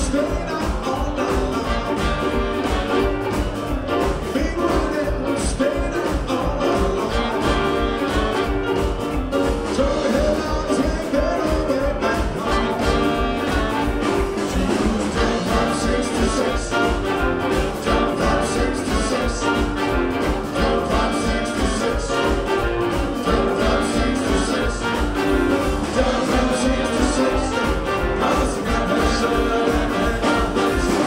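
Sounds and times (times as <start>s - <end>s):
horns: 0.0s - 31.0s.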